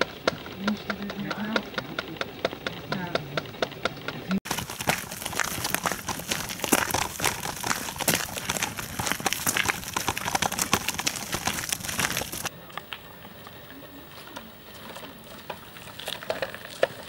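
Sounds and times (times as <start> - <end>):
stroller wheel rattling: 0.0 - 12.5, 14.1 - 17.0.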